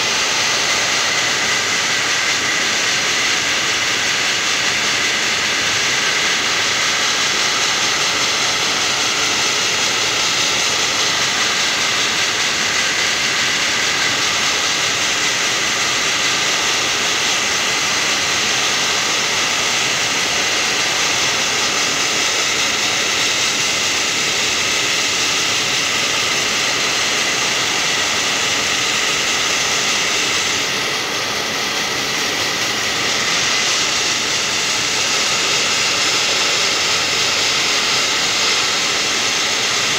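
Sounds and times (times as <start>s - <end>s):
compressed air nozzle hissing: 5.2s - 39.9s.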